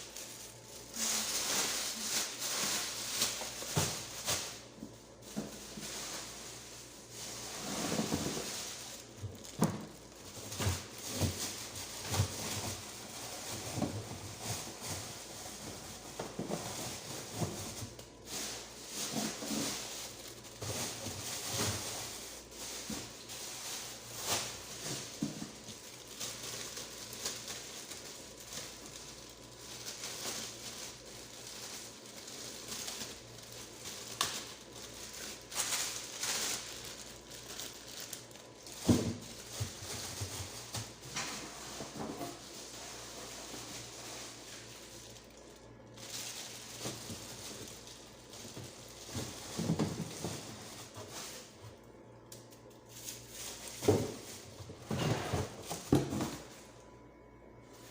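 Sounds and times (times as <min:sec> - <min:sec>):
plastic rustling: 0:00.0 - 0:56.9, 0:57.6 - 0:57.9.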